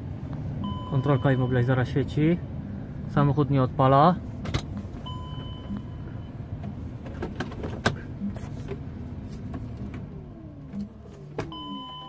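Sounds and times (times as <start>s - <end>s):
low hum in car cabin: 0.0s - 12.0s.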